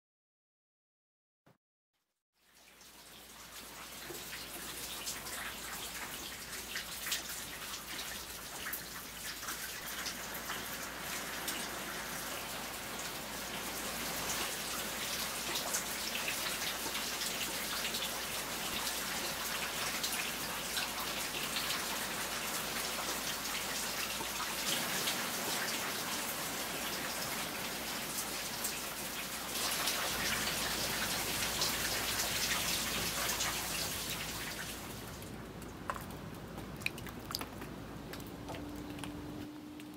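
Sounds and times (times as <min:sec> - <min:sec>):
close raindrops: 0:02.4 - 0:39.9
rain falling: 0:02.4 - 0:39.9.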